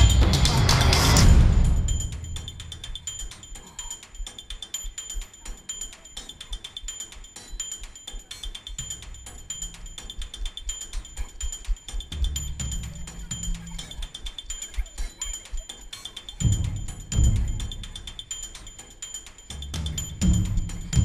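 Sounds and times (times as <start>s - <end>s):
fast ticking beat: 0.0s - 21.0s
high repeating tones: 1.1s - 21.0s.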